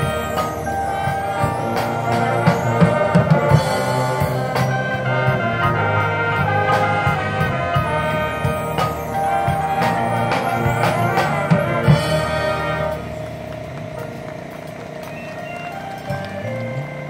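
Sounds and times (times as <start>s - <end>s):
brass chords: 0.0s - 17.0s
drums and percussion: 0.0s - 17.0s
marching band playing: 0.0s - 17.0s.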